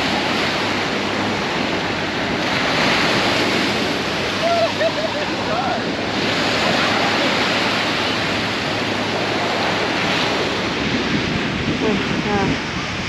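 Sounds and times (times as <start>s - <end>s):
moving water: 0.0s - 13.0s
wind on microphone: 0.0s - 13.0s.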